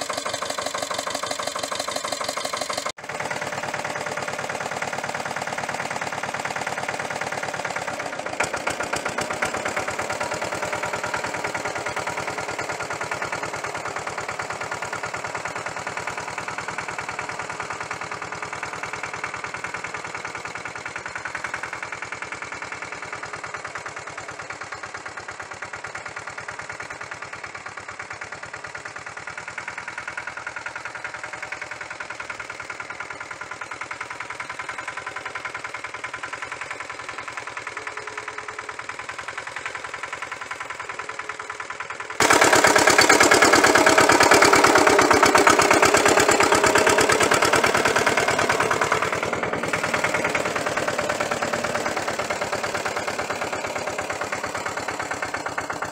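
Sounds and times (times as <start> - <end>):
diesel engine knocking: 0.0 - 55.9.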